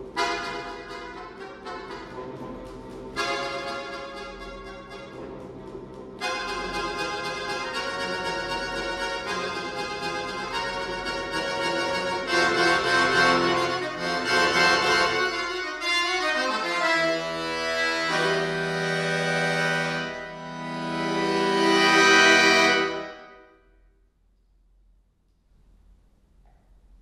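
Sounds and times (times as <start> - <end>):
button accordion playing: 0.0 - 5.5, 6.2 - 23.4.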